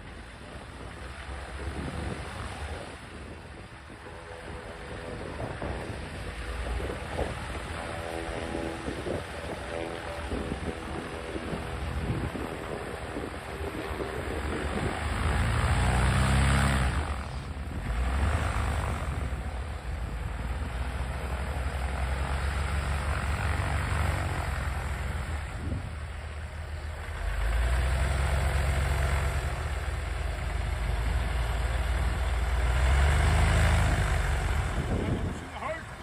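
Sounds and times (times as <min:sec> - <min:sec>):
aircraft engine running: 0:00.0 - 0:36.0.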